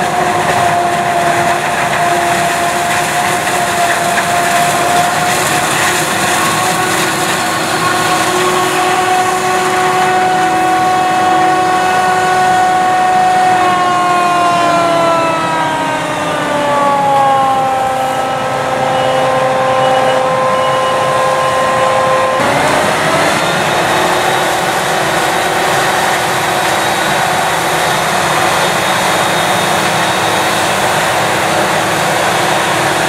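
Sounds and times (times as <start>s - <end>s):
forage harvester diesel roar: 0.0s - 33.0s.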